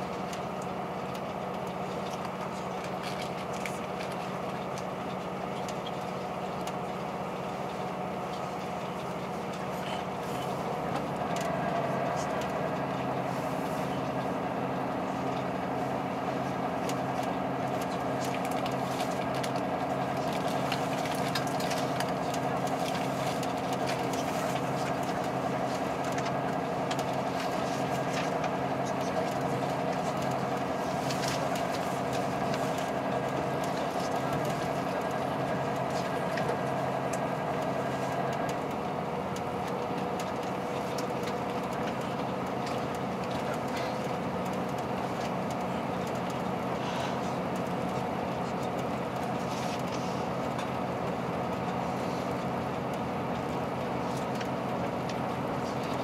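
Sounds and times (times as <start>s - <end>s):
train engine drone: 0.0s - 56.0s
wheels clicking over rails: 0.0s - 56.0s.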